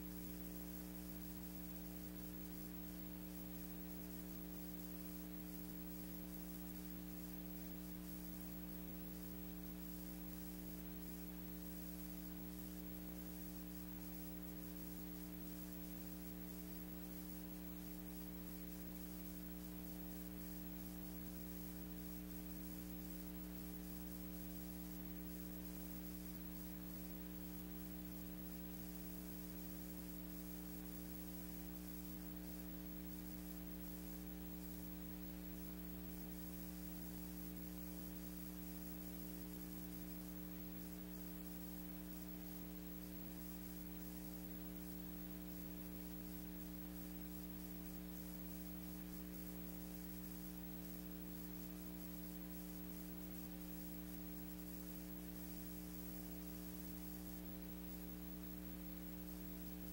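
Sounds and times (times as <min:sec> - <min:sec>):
faint hiss and crackle: 0:00.0 - 0:59.9
steady electrical hum: 0:00.0 - 0:59.9.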